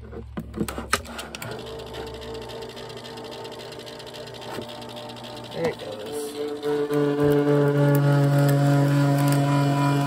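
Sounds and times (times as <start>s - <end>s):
machine motor droning: 1.2s - 10.0s.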